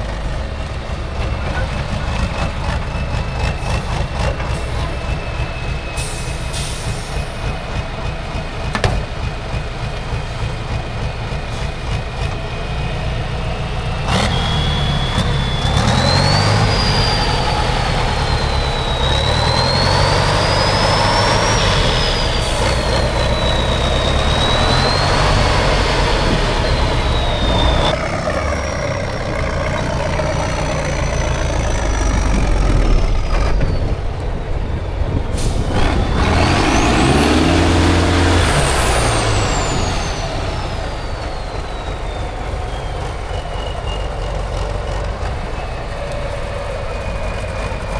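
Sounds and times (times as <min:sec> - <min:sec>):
truck diesel engine under load: 0:00.0 - 0:47.9.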